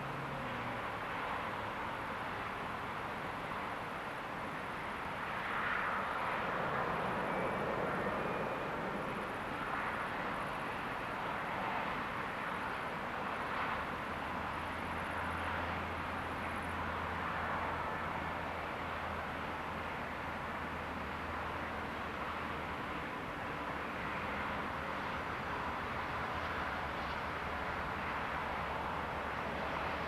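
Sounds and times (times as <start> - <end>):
moving vehicle noise: 0.0 - 30.0.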